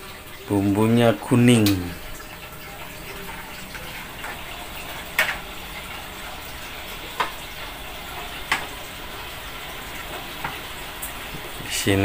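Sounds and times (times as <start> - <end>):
gas stove burner hissing: 0.0 - 12.0
pots simmering: 0.0 - 12.0.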